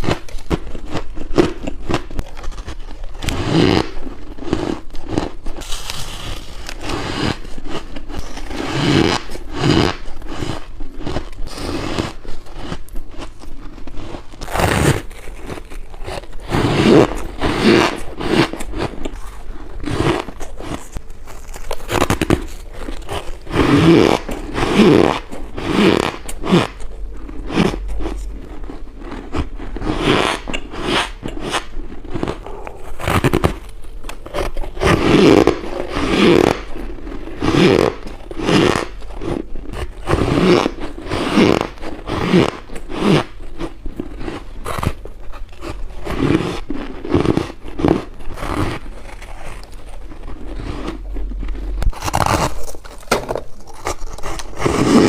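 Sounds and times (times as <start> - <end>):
crunching of bitten frost: 0.0 - 55.0.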